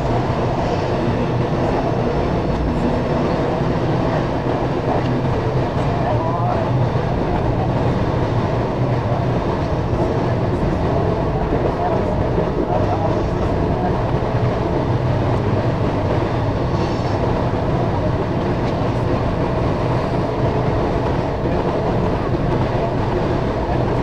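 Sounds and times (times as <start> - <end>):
train rolling along rails: 0.0 - 24.0.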